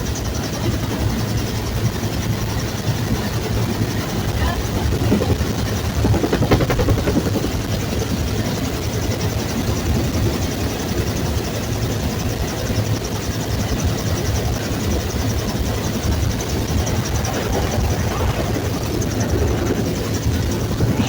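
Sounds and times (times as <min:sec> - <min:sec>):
helicopter rotor and turbine drone: 0:00.0 - 0:21.0.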